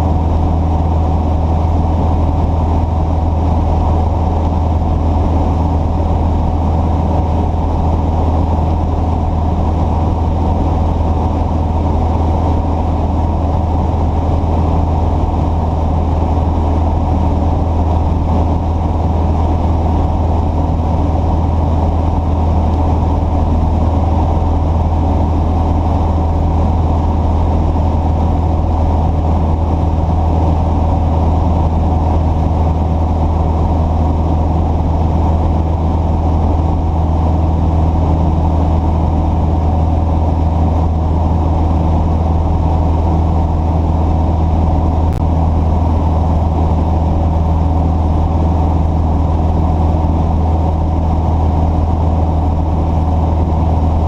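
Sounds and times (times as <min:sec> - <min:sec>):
large engine idling: 0:00.0 - 0:54.0.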